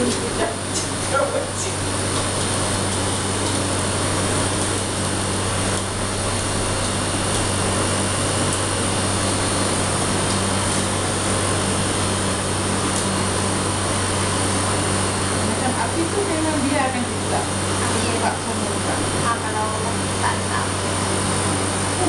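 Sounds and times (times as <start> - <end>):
cotton candy machine motor hum: 0.0 - 22.0.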